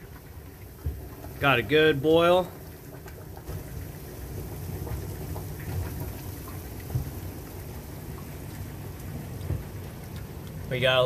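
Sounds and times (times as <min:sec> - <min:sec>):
low steady rumble: 0:00.0 - 0:11.0
sap bubbling at a hard boil: 0:00.0 - 0:11.0.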